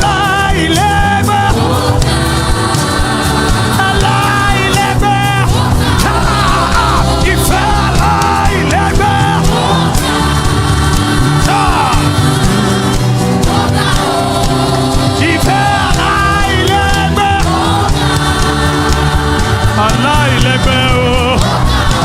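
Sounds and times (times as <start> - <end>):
choir singing gospel: 0.0 - 22.0
sustained backing instruments: 0.0 - 22.0.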